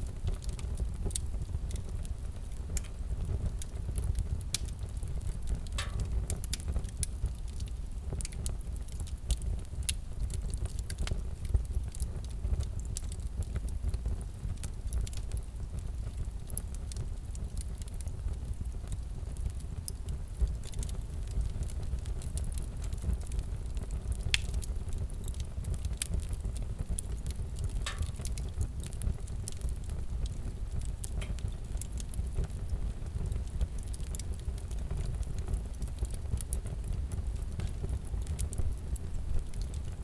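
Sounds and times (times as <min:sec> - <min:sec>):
fire crackling: 0:00.0 - 0:40.0.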